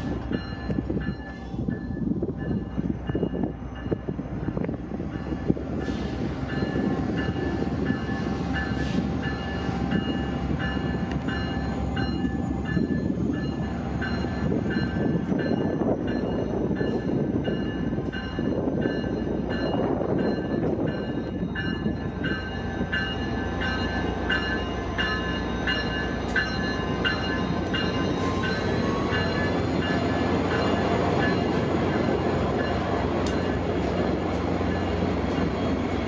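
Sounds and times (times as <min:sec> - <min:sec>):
diesel locomotive engine rumbling: 0:00.0 - 0:36.0
locomotive bell ringing: 0:00.0 - 0:36.0.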